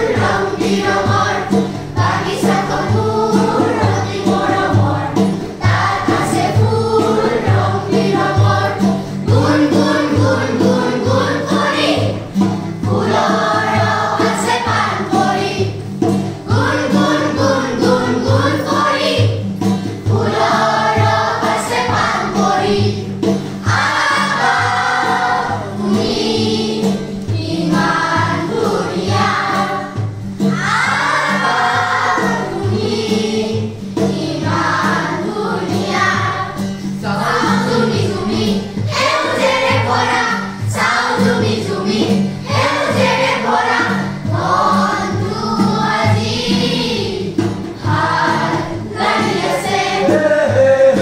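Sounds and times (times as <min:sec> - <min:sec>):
children singing in chorus: 0:00.0 - 0:51.0
instrumental accompaniment: 0:00.0 - 0:51.0.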